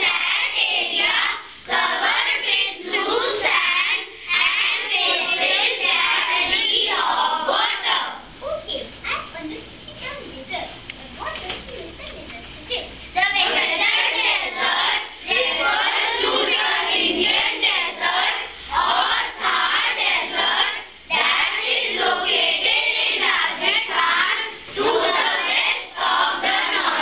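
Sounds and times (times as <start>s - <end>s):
children singing in unison: 0.0s - 8.2s, 13.3s - 27.0s.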